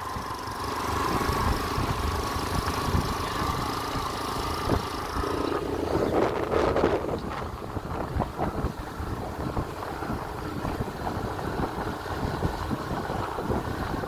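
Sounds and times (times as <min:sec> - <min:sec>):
motorcycle engine: 0:00.0 - 0:14.0
road noise: 0:00.0 - 0:14.0
wind buffeting microphone: 0:00.0 - 0:14.0.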